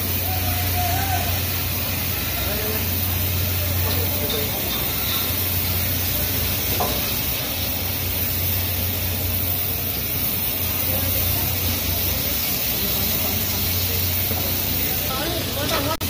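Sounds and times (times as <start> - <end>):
cutting torch hissing: 0.0 - 16.0
low machine hum: 0.0 - 16.0.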